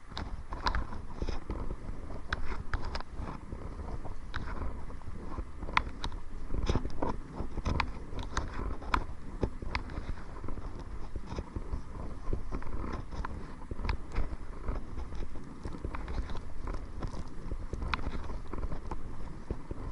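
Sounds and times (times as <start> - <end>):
wind rumble on microphone: 0.0 - 19.9.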